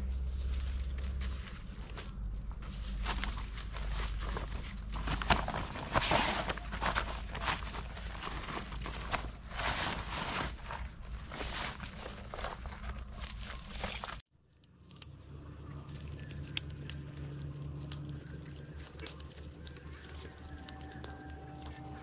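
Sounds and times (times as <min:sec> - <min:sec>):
rustling and crunching in undergrowth: 0:00.0 - 0:14.3, 0:14.9 - 0:22.0.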